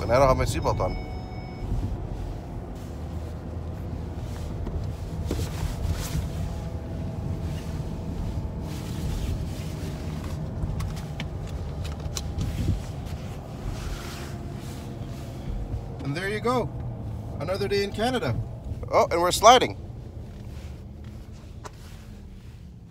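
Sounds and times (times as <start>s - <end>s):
car engine and tyres rumbling: 0.0s - 22.9s.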